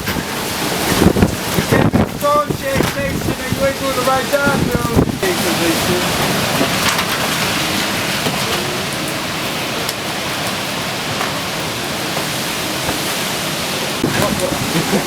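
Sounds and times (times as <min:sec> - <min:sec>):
wind-driven rain hissing: 0:00.0 - 0:15.0.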